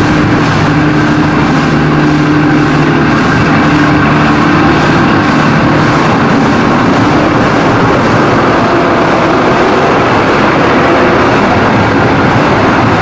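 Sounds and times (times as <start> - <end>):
low engine hum: 0.0 - 13.0
train carriages rumbling past: 0.0 - 13.0.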